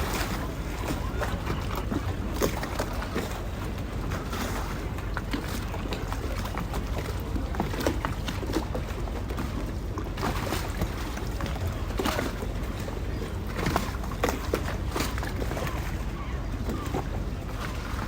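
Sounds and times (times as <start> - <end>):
small splashes and knocks: 0.0 - 18.0
water lapping against boat hulls: 0.0 - 18.0.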